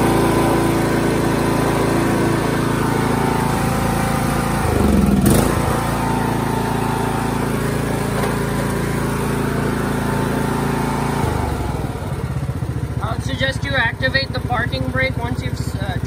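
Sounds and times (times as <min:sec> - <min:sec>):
riding mower engine running: 0:00.0 - 0:16.0.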